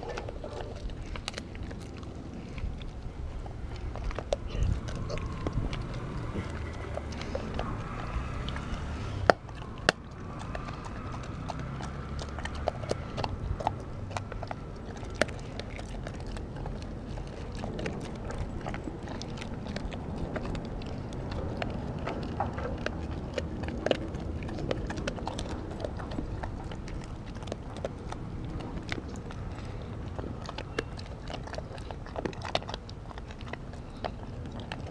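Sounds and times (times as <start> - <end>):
dog chewing and crunching food: 0.0 - 34.9.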